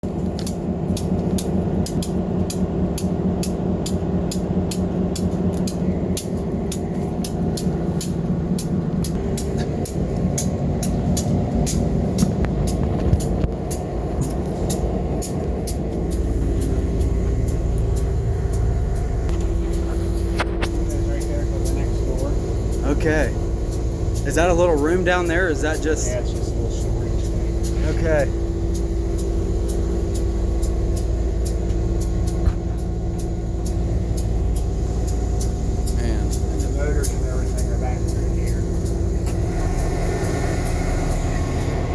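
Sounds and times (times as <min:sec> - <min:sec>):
held engine tone: 0:00.0 - 0:41.9
locomotive engine rumbling: 0:00.0 - 0:41.9
sharp high ticks: 0:00.2 - 0:41.9.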